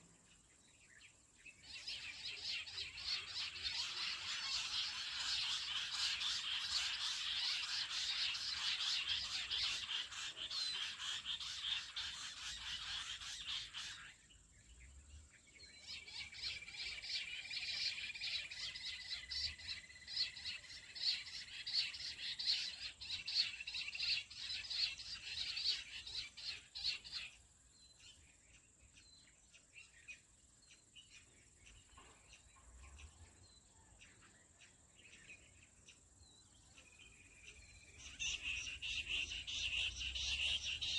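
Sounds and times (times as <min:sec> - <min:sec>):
quail chirping chorus: 0:01.6 - 0:14.3, 0:15.7 - 0:28.2, 0:30.2 - 0:40.9.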